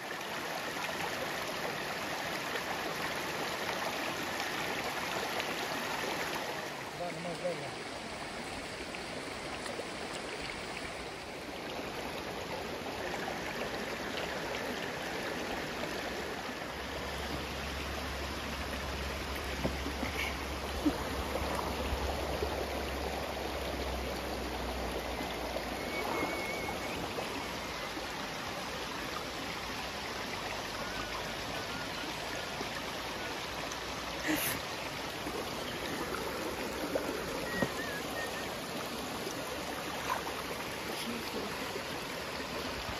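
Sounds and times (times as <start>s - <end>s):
creek water running over rocks: 0.0s - 42.9s.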